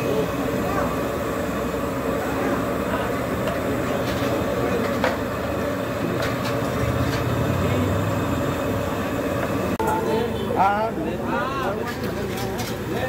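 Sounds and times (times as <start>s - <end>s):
street-food stall rumble and hum: 0.0s - 13.0s.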